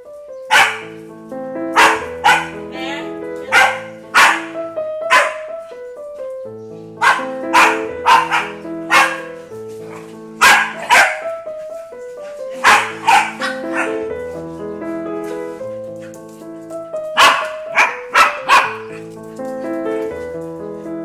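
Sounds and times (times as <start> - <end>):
background music of held notes: 0.0 - 21.0
dogs barking in play: 0.4 - 1.0, 1.6 - 2.7, 3.3 - 6.4, 7.0 - 14.3, 15.2 - 20.2.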